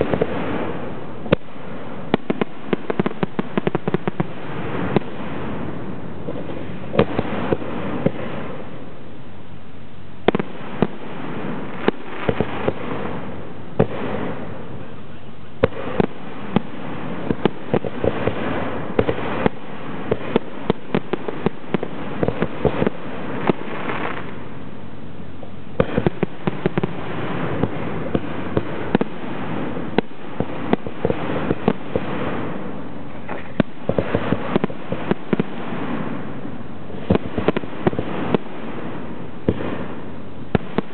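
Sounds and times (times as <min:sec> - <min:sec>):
constant noisy wash: 0:00.0 - 0:40.9
fireworks launching and bursting: 0:00.0 - 0:40.9.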